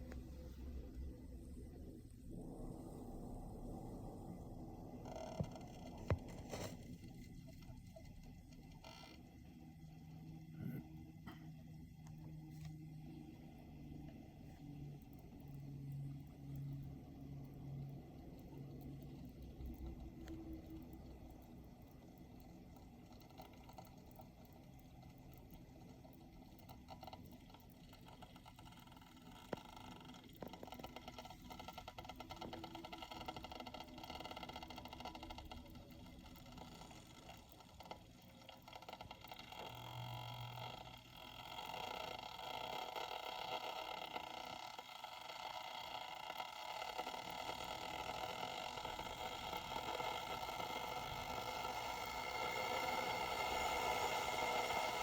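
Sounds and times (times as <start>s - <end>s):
electric kettle heating water: 0.0s - 55.0s
small ticks: 5.0s - 55.0s.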